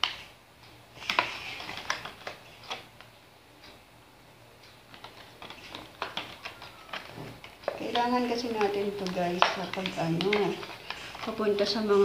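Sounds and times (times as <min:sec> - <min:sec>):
plastic clicks and crinkles: 0:01.0 - 0:03.8, 0:04.6 - 0:12.0.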